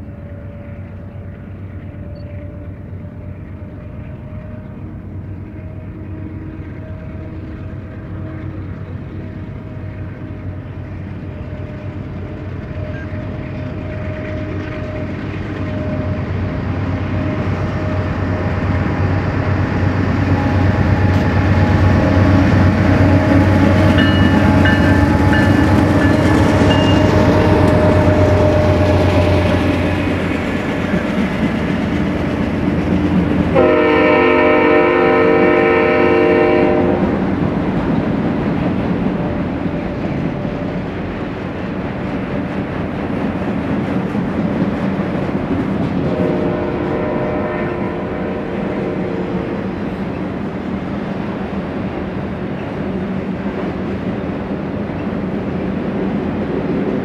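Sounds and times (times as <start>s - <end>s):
locomotive engine drone: 0.0s - 57.0s
train wheels rumbling on rails: 0.0s - 57.0s.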